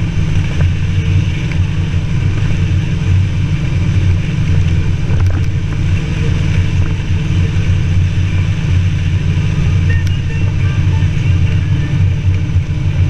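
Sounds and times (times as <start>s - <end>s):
motorcycle engine drone: 0.0s - 13.0s
wind rushing over microphone: 0.0s - 13.0s.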